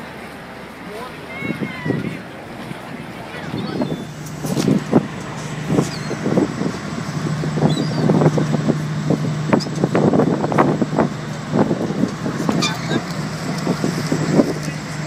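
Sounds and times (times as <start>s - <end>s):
ferry engine humming: 0.0s - 15.0s
wind buffeting microphone: 1.4s - 15.0s.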